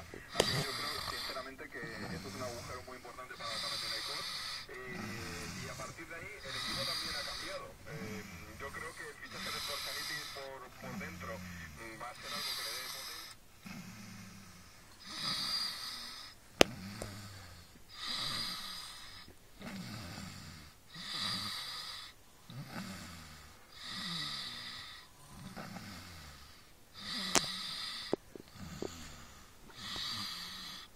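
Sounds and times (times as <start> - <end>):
man snoring: 0.0 - 30.9.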